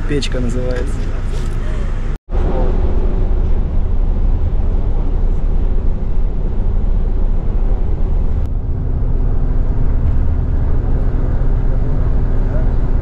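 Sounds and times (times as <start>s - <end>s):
bus engine rumble: 0.0s - 13.0s
faint drone: 0.0s - 13.0s.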